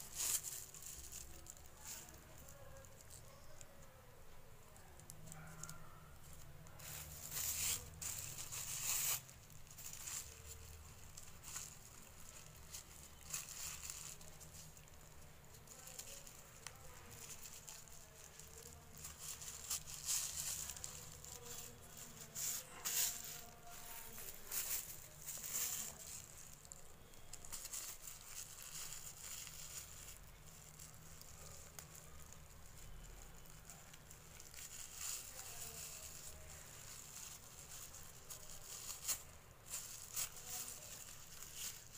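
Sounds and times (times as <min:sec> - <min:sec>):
plastic crinkling and rustling: 0:00.0 - 0:41.9.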